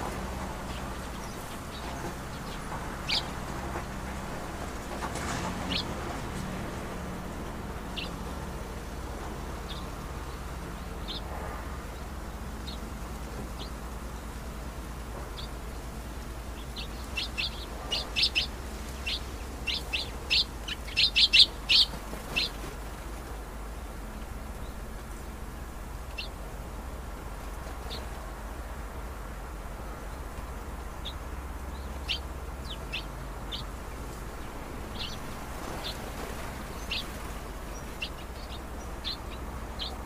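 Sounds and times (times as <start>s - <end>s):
birds chirping: 0.0s - 14.6s, 15.2s - 26.8s, 29.9s - 40.0s
steady low background noise: 0.0s - 40.0s.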